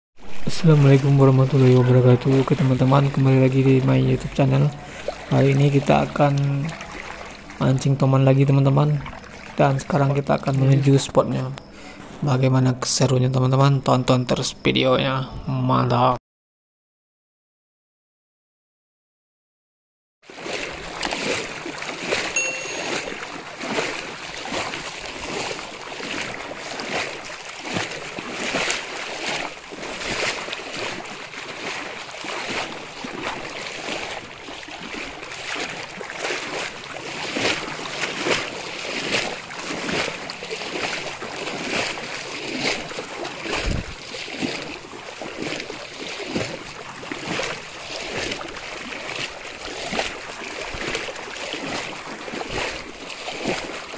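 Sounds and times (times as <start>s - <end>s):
water splashing and sloshing: 0.2s - 14.4s, 20.2s - 53.9s.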